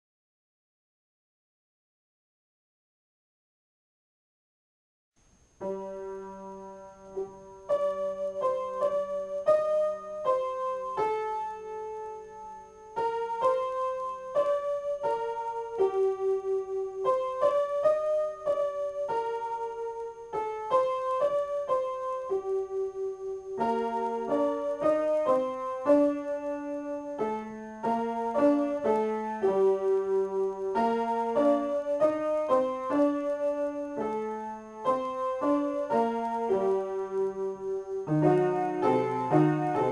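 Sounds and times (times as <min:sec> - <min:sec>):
piano improvisation: 0:05.5 - 0:39.9.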